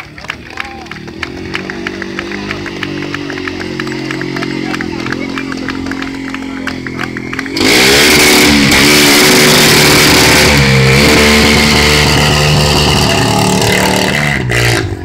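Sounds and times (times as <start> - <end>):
quad bike engine revving: 0.8 - 15.0.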